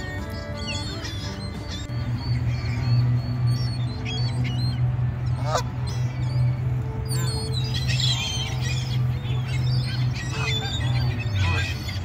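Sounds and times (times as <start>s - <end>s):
background music with low drone: 0.0s - 12.0s
geese honking: 0.0s - 12.0s
gulls calling: 0.0s - 12.0s.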